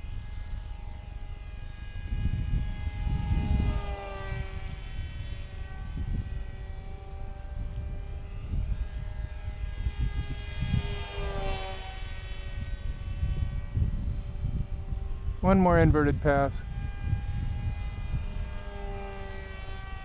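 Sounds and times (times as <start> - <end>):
model plane motor whining: 0.0 - 20.0
wind rumble on microphone: 0.0 - 20.0.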